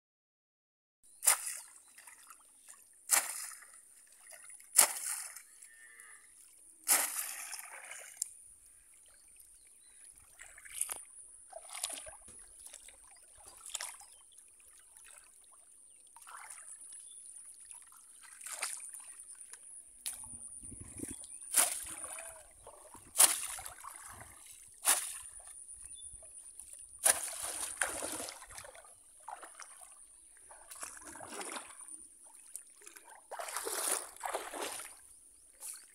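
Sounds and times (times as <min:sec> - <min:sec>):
water splashing: 0:01.2 - 0:05.8, 0:06.4 - 0:15.5, 0:16.2 - 0:16.9, 0:17.6 - 0:19.5, 0:20.1 - 0:35.0.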